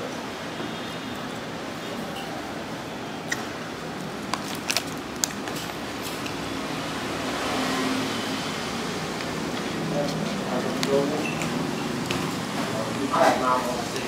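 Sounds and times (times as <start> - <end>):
eatery background noise: 0.0 - 14.0.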